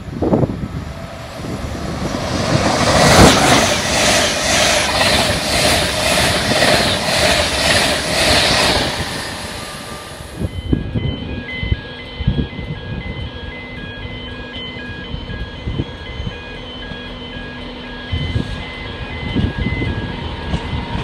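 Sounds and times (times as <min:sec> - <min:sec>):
express train rushing past: 0:00.0 - 0:21.0.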